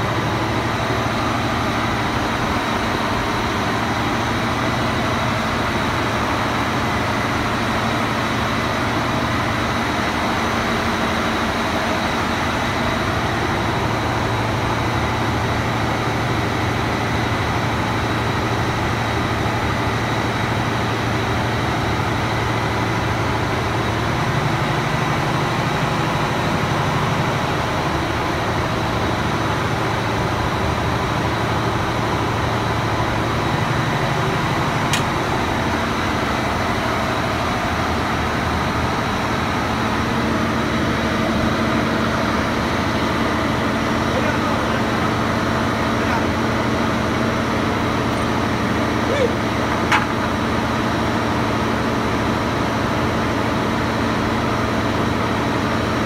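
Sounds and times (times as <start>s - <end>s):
heavy machinery droning: 0.0s - 56.0s.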